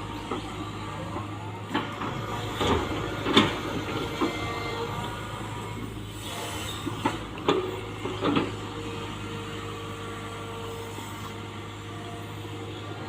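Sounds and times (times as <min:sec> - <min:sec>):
excavator engine hum: 0:00.0 - 0:13.0.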